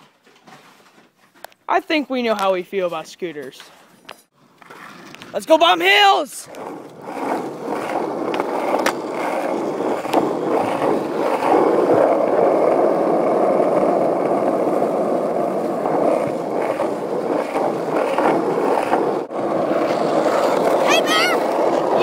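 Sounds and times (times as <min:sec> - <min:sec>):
skateboard wheels rolling on pavement: 0:00.0 - 0:22.0.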